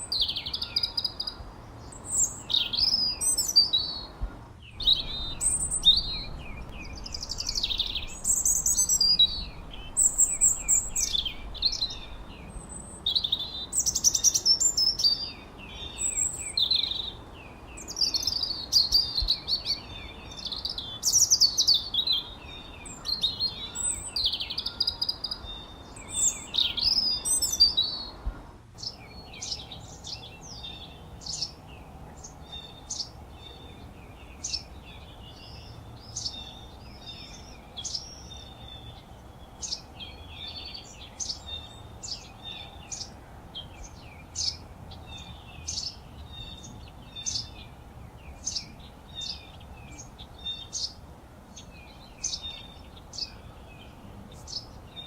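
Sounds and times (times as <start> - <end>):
faint background hiss: 0.0 - 55.0
songbirds chirping and trilling: 0.0 - 55.0.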